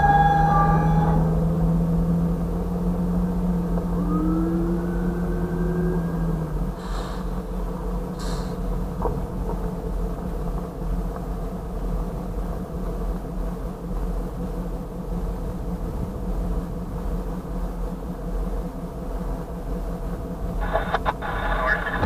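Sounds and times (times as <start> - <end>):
diesel locomotive engine idling: 0.0 - 22.0.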